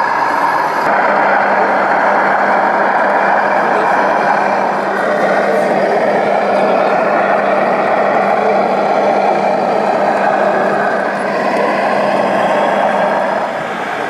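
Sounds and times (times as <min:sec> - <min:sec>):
model bulldozer driving on concrete: 0:00.0 - 0:14.0.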